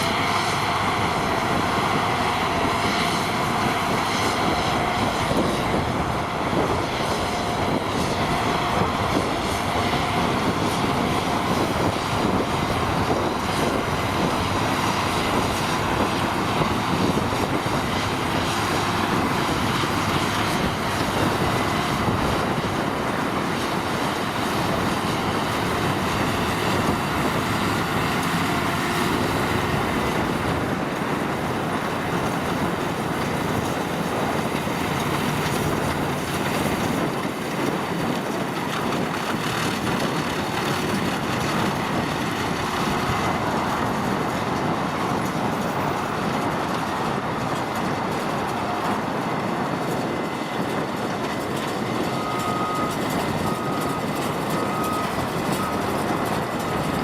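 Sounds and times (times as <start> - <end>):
continuous rattling clatter: 0.0 - 57.0
tractor machinery din: 0.0 - 57.0.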